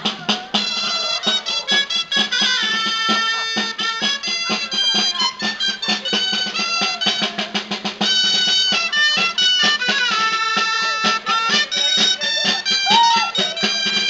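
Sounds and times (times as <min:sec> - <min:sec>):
high held folk melody: 0:00.0 - 0:14.0
snare drum rolls and beats: 0:00.0 - 0:14.0.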